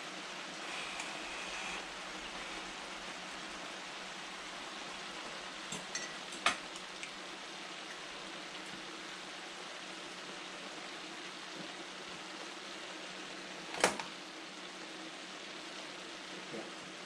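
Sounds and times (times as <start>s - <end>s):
food sizzling in a skillet: 0.0s - 17.0s.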